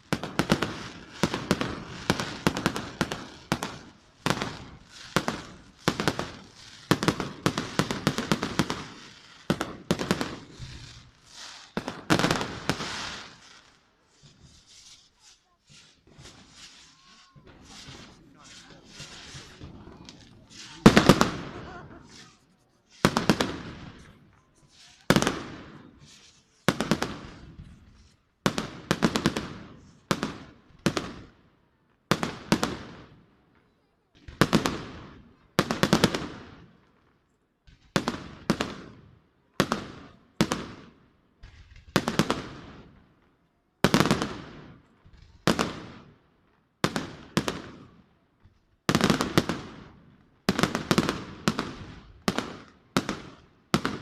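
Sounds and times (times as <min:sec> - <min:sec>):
fireworks bursting with echo: 0:00.0 - 0:54.0
fireworks crackling: 0:00.0 - 0:54.0.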